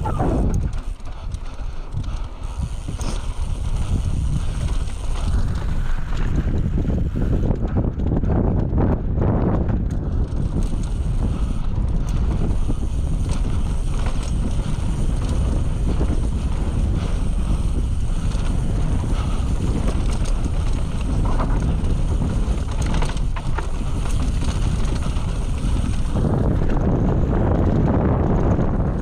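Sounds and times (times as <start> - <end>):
bike clicks and rattles: 0.0 - 29.0
bike tyre rumble: 0.0 - 29.0
wind buffeting microphone: 0.0 - 29.0.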